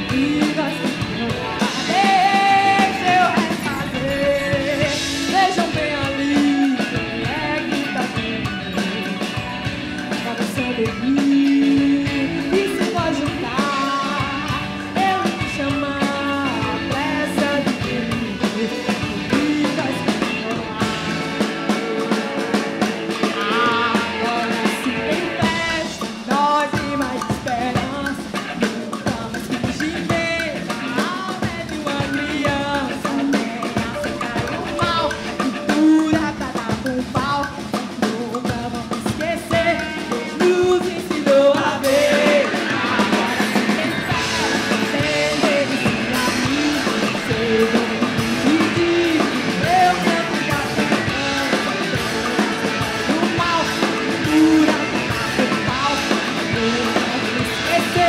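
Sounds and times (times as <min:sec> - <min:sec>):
woman singing: 0:00.0 - 0:09.2, 0:10.1 - 0:21.1, 0:23.2 - 0:58.0
drum kit: 0:00.0 - 0:58.0
electric guitar: 0:00.0 - 0:58.0.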